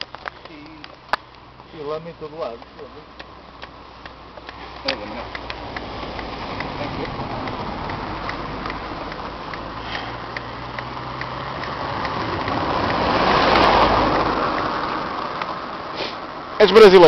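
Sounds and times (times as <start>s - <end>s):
light regular ticking: 0.0s - 15.7s.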